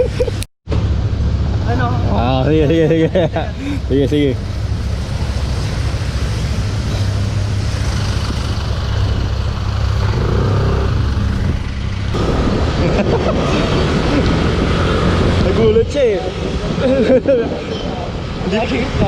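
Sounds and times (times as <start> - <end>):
motor vehicle rumble: 0.0 - 19.0
traffic noise: 0.0 - 19.0.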